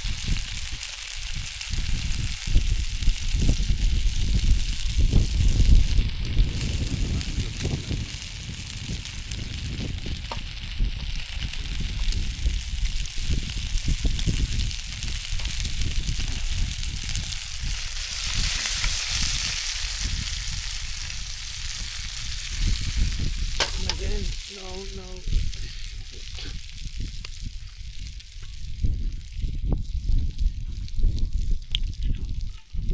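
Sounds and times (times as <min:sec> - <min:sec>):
camp stove low rumble: 0:00.0 - 0:32.9
food sizzling in a pan: 0:00.0 - 0:32.9.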